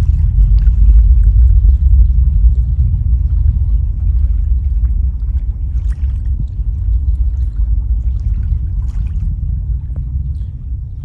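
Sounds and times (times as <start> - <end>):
distant rocket rumble: 0.0 - 11.0.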